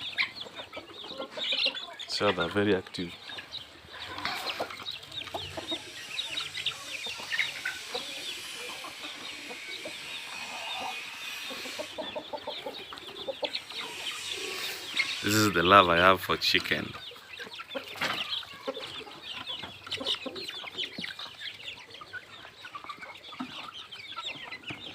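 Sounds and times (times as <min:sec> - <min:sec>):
chickens clucking: 0:00.0 - 0:24.9.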